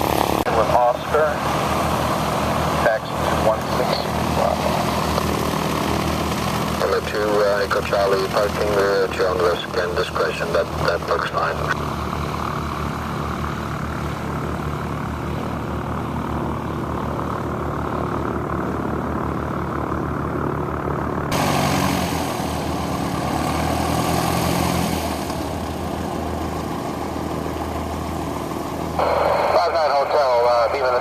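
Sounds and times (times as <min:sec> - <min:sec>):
propeller plane engine running: 0:00.0 - 0:31.0.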